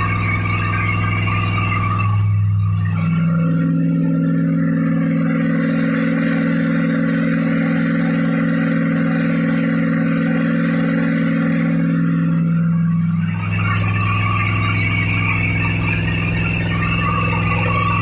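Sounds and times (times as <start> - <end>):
car engine running at raised speed: 0.0 - 18.0.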